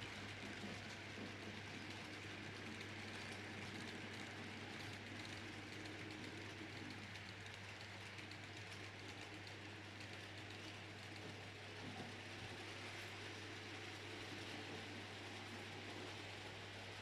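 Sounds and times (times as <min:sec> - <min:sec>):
faint ticking of train wheels: 0:00.0 - 0:17.0
model train whirring: 0:00.0 - 0:17.0.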